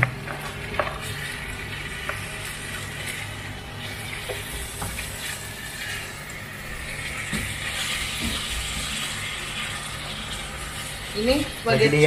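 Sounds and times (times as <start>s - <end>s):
meat sizzling in a frying pan: 0.4s - 12.0s.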